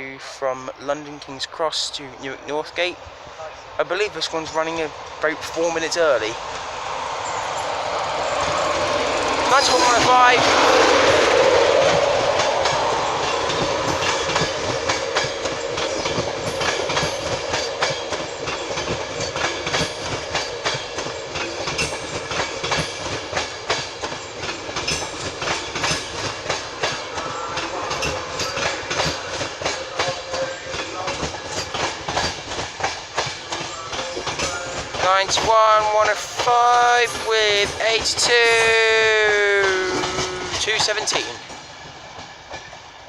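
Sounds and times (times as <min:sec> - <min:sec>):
electric locomotive tone: 0:00.0 - 0:43.0
train wheels clicking over rail joints: 0:03.8 - 0:43.0.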